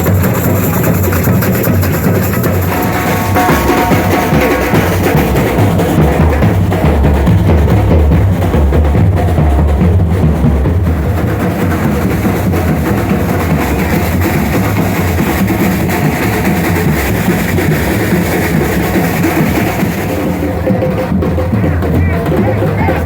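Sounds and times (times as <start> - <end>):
carnival parade music: 0.0 - 23.0.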